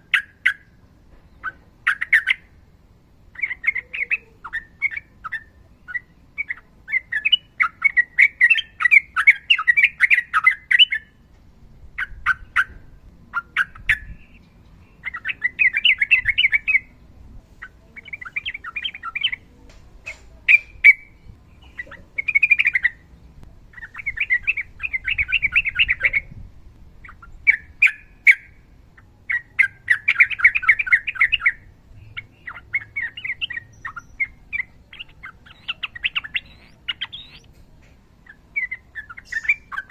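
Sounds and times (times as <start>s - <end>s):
bulbul chattering song: 0.0s - 11.2s, 11.9s - 26.4s, 27.0s - 39.9s.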